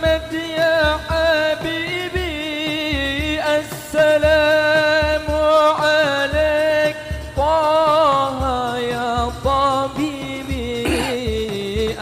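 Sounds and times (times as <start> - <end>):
low drum beats: 0.0 - 12.0
person singing devotional song: 0.0 - 12.0.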